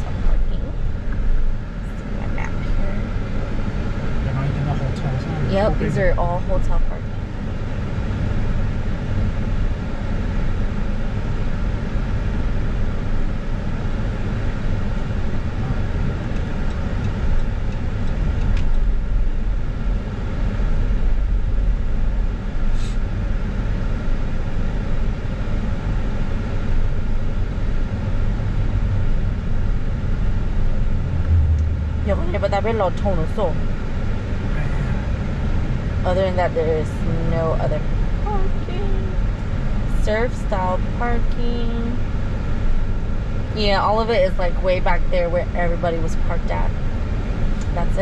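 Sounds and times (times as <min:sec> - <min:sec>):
car engine and tyre rumble: 0:00.0 - 0:48.0.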